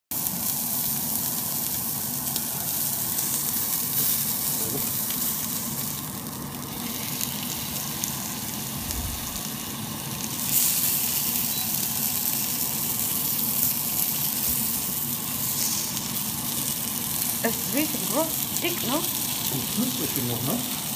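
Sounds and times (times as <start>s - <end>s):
steak sizzling in a frying pan: 0.1s - 20.9s.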